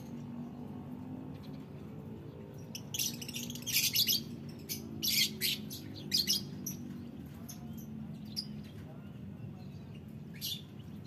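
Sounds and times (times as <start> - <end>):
lovebirds chirping and shrieking: 0.0 - 11.0.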